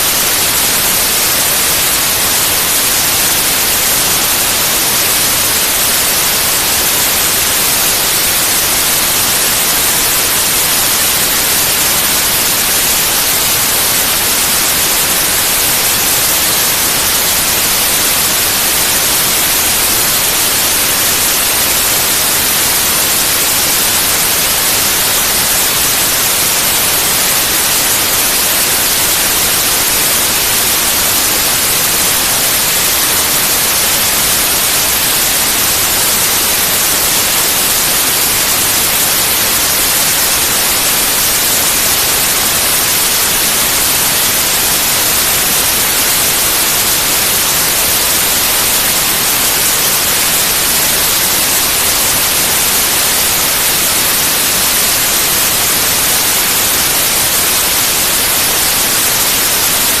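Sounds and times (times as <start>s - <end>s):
white noise hiss: 0.0s - 60.0s.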